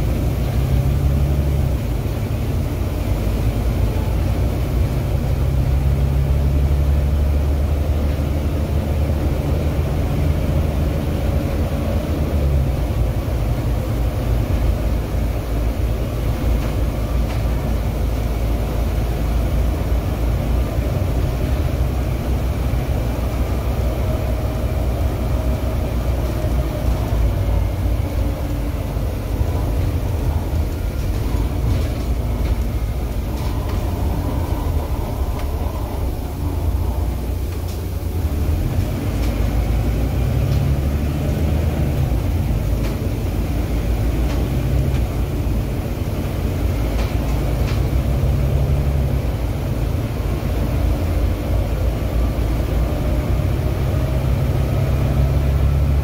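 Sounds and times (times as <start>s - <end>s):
bus diesel engine droning: 0.0s - 56.0s
tyre and road rumble: 0.0s - 56.0s.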